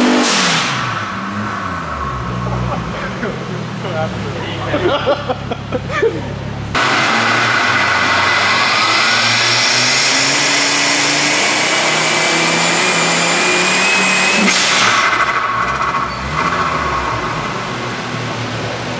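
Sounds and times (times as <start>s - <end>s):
car engine revving under load: 0.0s - 18.9s.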